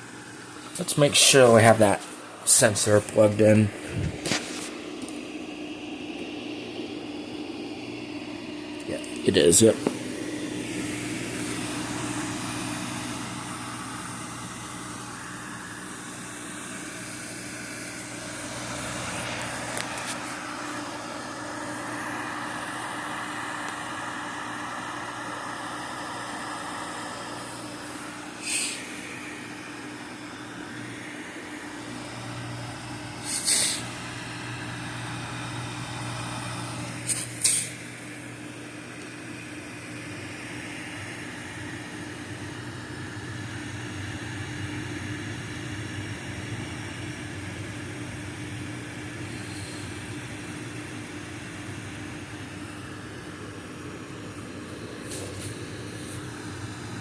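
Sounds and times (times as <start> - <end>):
computer cooling fan whirring: 0.0 - 57.0.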